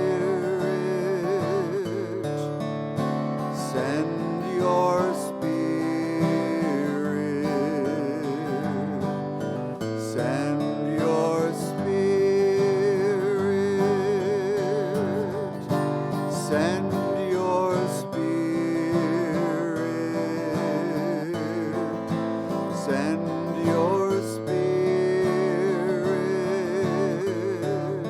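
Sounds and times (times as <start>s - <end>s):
person singing a hymn: 0.0s - 28.0s
strummed acoustic guitar: 0.0s - 28.0s.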